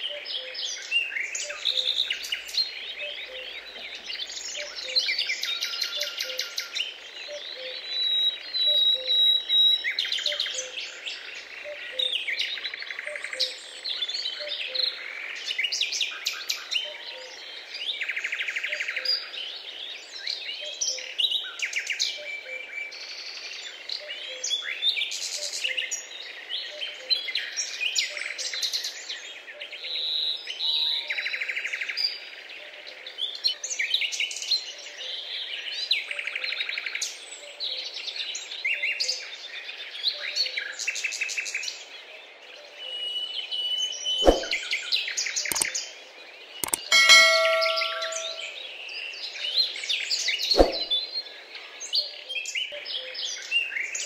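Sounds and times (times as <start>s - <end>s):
birds calling and singing: 0.0s - 49.4s.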